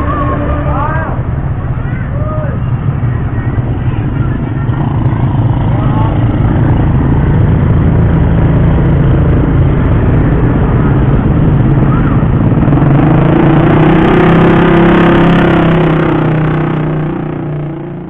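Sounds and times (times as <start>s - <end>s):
engine revving higher: 0.0s - 2.9s, 4.6s - 18.0s
small motorcycle engines running: 0.0s - 18.0s.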